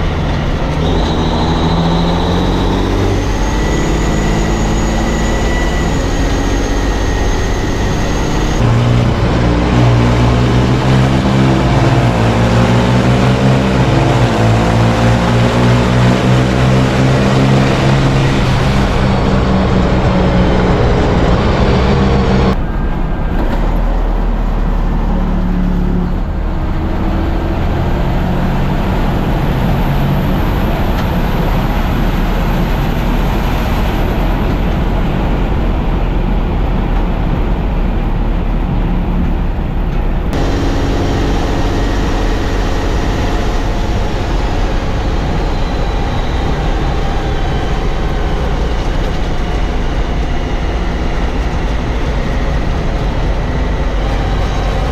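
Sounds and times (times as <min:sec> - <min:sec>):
diesel truck engines racing: 0:00.0 - 0:54.9.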